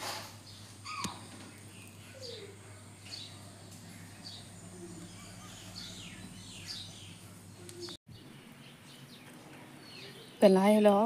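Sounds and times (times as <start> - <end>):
low steady hum: 0.3 - 11.0
small birds chirping: 0.4 - 11.0.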